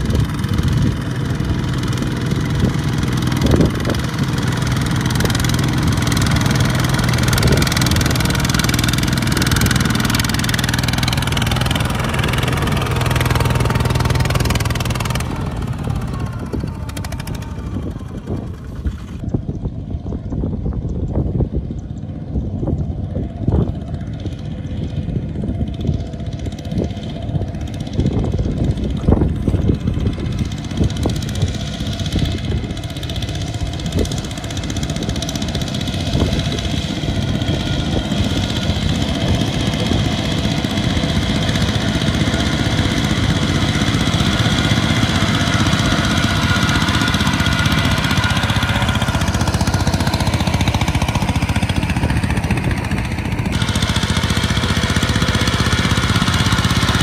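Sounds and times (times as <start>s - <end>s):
diesel tractors chugging: 0.0s - 57.0s.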